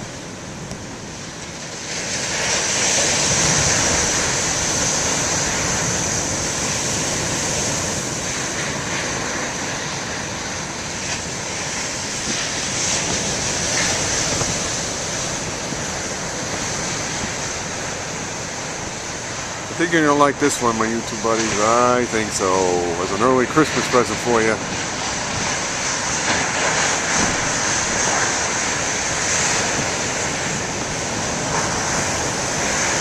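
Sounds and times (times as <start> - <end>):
surf breaking on rocky shore: 0.0 - 33.0.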